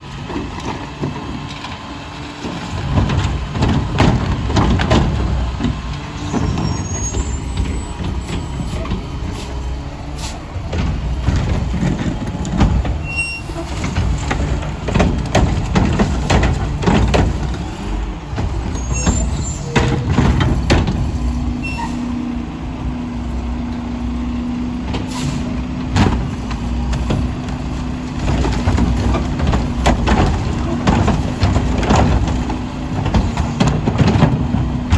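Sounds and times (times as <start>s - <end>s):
garbage truck running: 0.0s - 34.9s
clanks and knocks: 0.2s - 34.9s.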